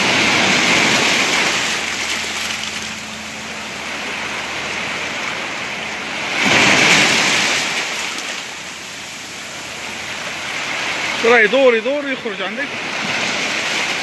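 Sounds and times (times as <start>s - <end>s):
sea surf rushing: 0.0s - 14.0s
wave breaking: 0.0s - 14.0s.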